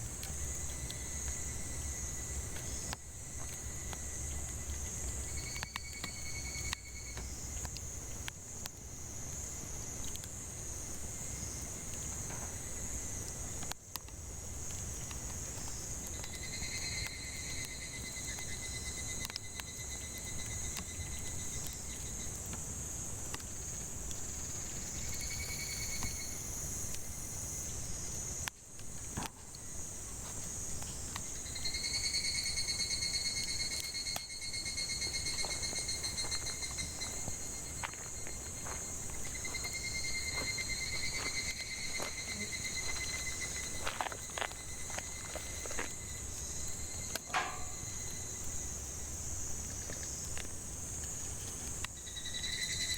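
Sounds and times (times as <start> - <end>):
cicadas buzzing: 0.0 - 52.9
firewood crackling: 0.0 - 52.9
lower pulsing insect call: 0.0 - 52.9.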